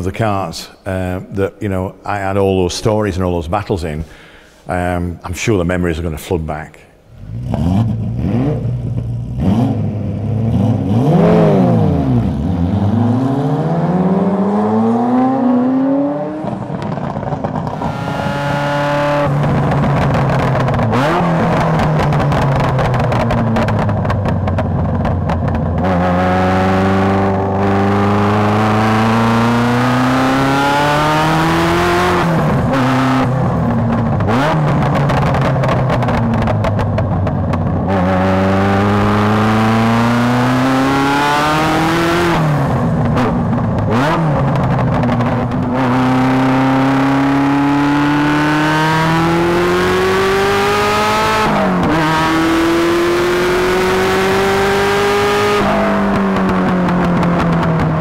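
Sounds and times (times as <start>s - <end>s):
sports car engine revving: 7.1s - 58.0s.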